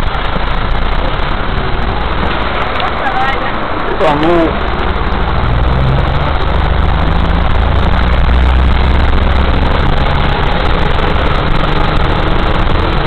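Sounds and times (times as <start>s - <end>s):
car engine running: 0.0s - 13.0s
rushing water and tyres: 0.0s - 13.0s.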